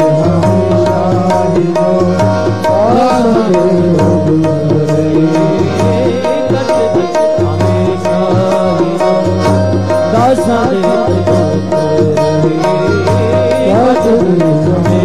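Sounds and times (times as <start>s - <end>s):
hand drum beat: 0.0s - 15.0s
wavering melody: 0.0s - 15.0s.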